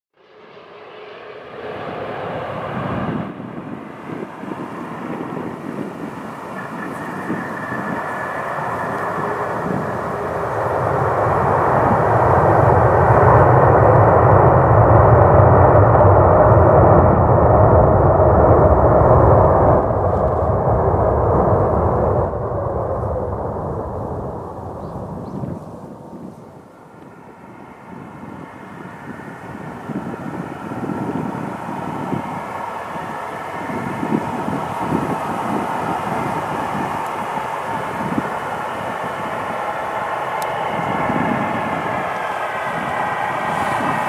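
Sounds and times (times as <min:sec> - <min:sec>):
faint high whine: 0:00.2 - 0:44.0
jet engines rushing: 0:00.2 - 0:44.0.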